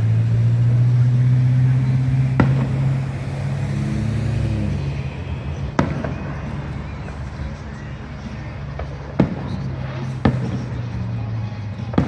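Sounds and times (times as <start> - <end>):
firework bangs: 0.0 - 12.0
low engine hum: 0.0 - 12.0.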